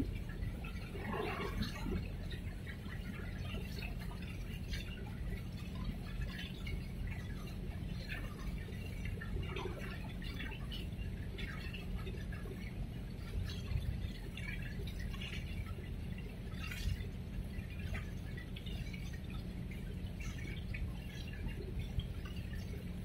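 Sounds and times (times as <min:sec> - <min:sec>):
water lapping and splashing: 0:00.0 - 0:23.0.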